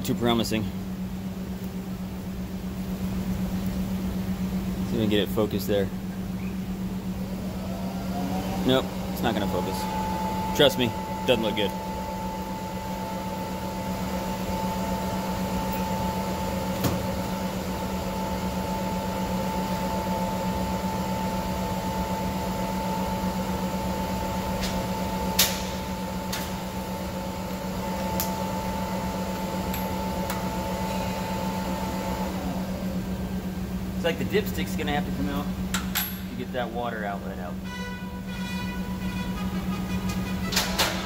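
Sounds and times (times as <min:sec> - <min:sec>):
high machine whine: 0:00.0 - 0:41.0
machine hum with low drone: 0:00.0 - 0:41.0.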